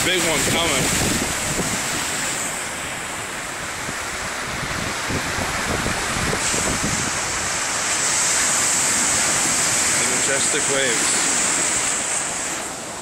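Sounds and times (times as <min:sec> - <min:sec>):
storm waves breaking on shore: 0:00.0 - 0:13.0
wind on microphone: 0:00.0 - 0:13.0.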